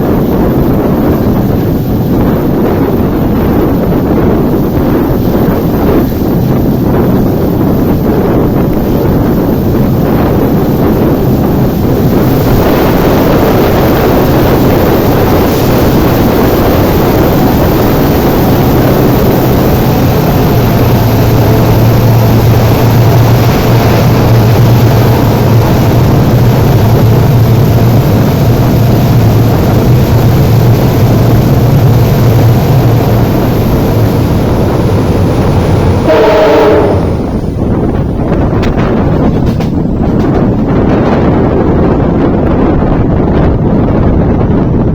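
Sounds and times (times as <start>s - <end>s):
diesel locomotive engine hum: 0.0s - 44.9s
rush of running train: 0.0s - 44.9s.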